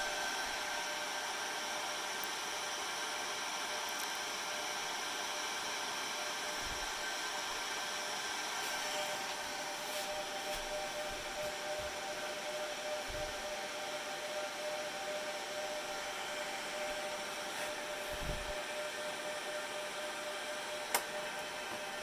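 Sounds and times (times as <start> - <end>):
faint steady whine: 0.0 - 22.0
fan whir and hiss: 0.0 - 22.0.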